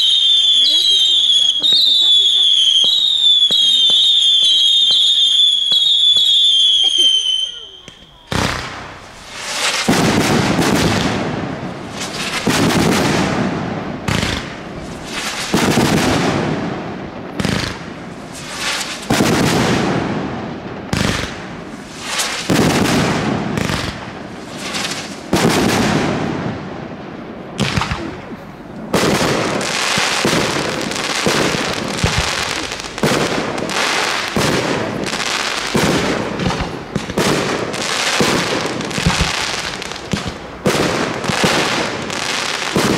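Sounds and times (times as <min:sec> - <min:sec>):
firework shells bursting: 0:00.0 - 0:26.5, 0:29.0 - 0:42.9.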